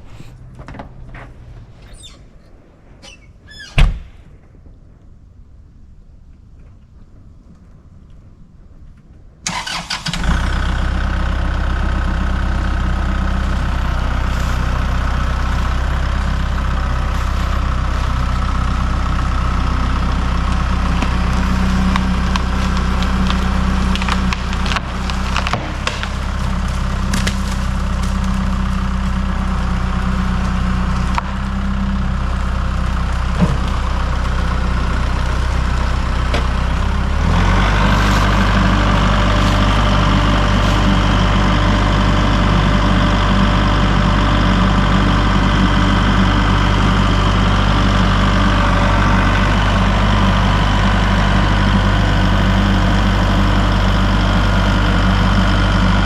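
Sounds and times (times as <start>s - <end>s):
heavy engine running: 4.3s - 56.0s.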